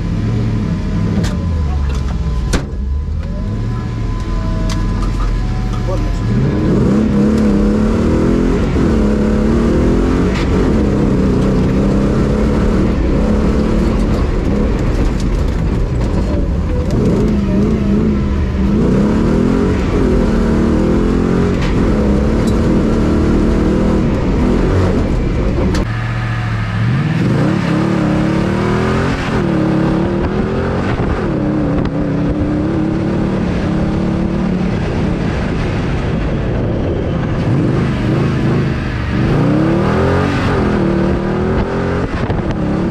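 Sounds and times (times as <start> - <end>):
car engine revving: 0.0 - 42.9
steady low rumble: 0.0 - 42.9.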